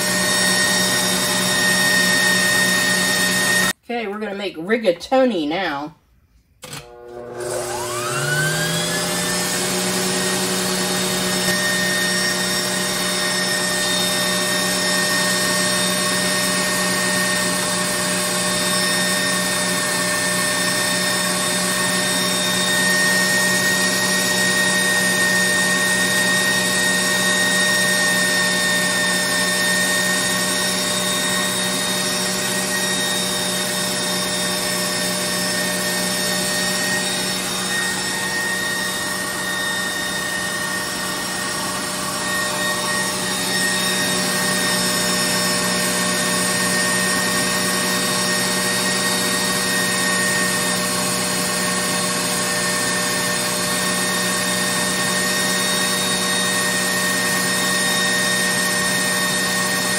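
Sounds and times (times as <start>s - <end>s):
stand mixer motor humming with whine: 0.0s - 3.8s, 6.7s - 59.9s.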